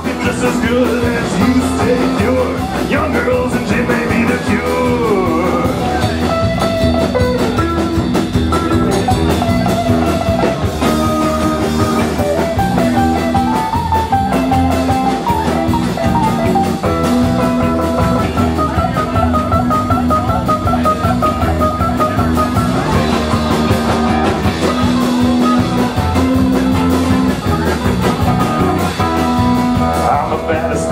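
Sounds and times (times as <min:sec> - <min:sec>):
drum kit: 0:00.0 - 0:30.9
electric bass: 0:00.0 - 0:30.9
guitar melody: 0:00.0 - 0:30.9.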